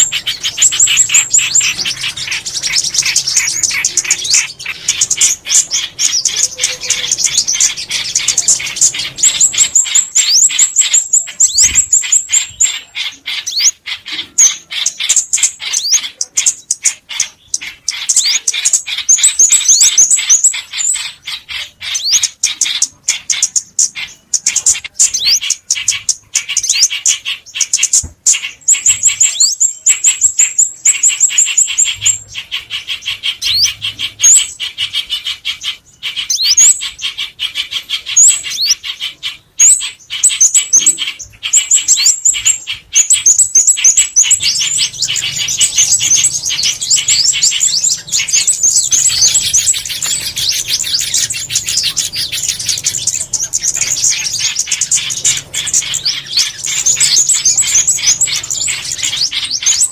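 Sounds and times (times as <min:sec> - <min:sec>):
songbird chirps: 0:00.0 - 0:59.9.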